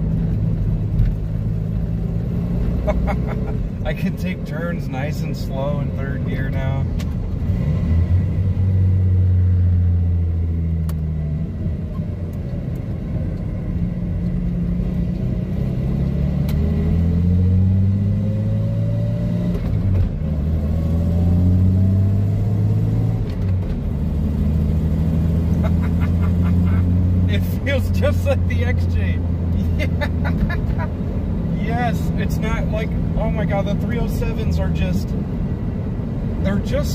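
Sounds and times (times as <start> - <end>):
truck engine running while driving: 0.0 - 36.9.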